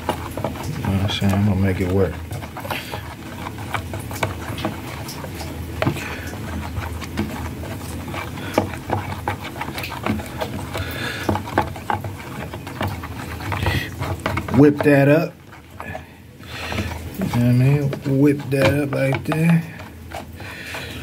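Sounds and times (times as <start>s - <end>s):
spatula scraping thick sauce: 0.0s - 21.0s.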